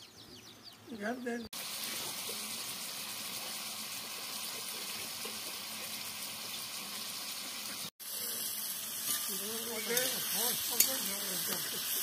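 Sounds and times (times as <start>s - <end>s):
food sizzling in a wok: 1.5s - 12.0s.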